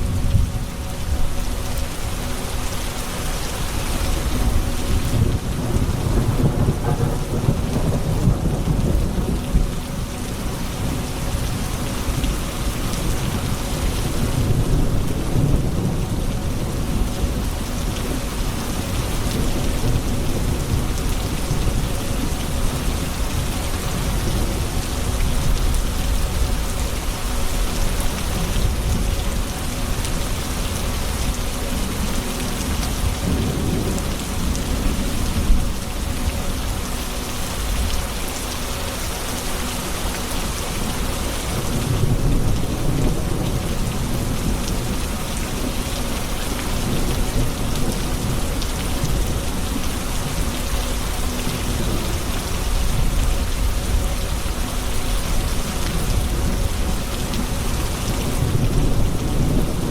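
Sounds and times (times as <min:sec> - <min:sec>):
steady rain falling: 0:00.0 - 0:59.9
low rolling thunder: 0:04.1 - 0:26.7, 0:27.6 - 0:36.5, 0:41.3 - 0:50.5, 0:51.1 - 0:59.9.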